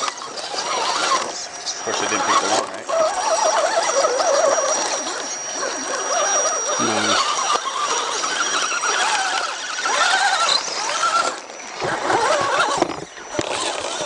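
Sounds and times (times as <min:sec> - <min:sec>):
electric motor whining: 0:00.0 - 0:14.0
faint high whine: 0:00.0 - 0:14.0.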